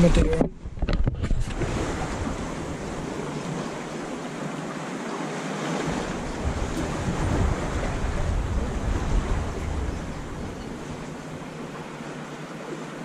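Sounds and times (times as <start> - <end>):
wind rumbling on microphone: 0.0 - 4.5, 5.6 - 12.3
waves washing against rocks: 0.0 - 13.0.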